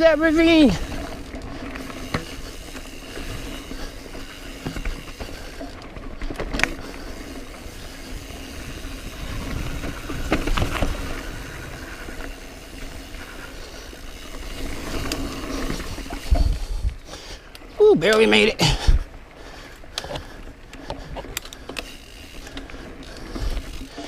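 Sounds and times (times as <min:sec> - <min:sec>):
mountain bike rattling on trail: 0:00.0 - 0:24.0.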